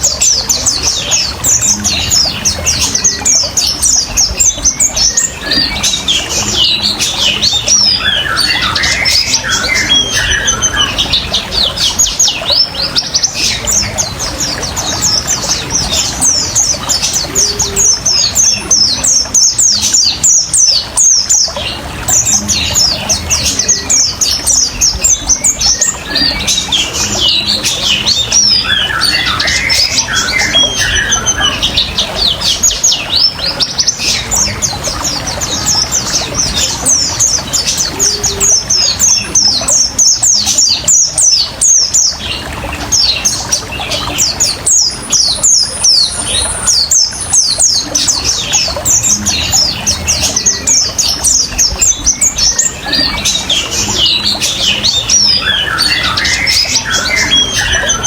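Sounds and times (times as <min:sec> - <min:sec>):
bird twittering song: 0:00.0 - 0:58.0
water trickling: 0:00.0 - 0:58.0.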